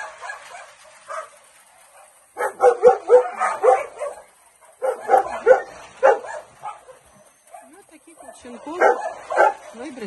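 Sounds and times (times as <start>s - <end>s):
dog barking: 0.0s - 10.0s.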